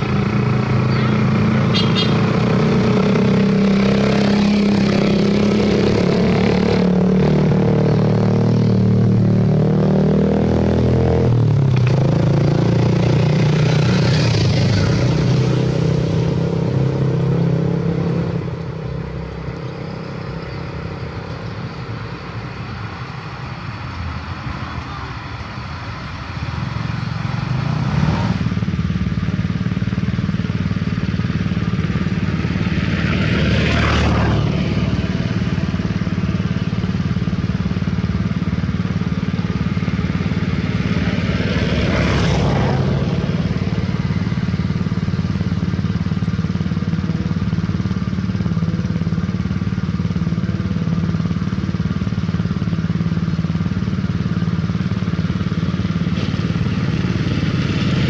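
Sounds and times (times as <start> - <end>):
diesel truck engines droning: 0.0 - 58.0
vehicles passing close by: 0.0 - 58.0.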